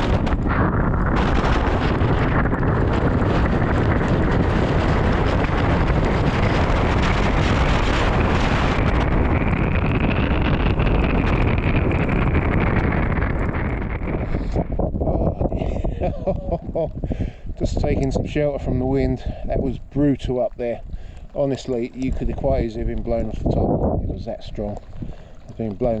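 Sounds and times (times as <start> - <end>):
wind blasting microphone: 0.0 - 26.0.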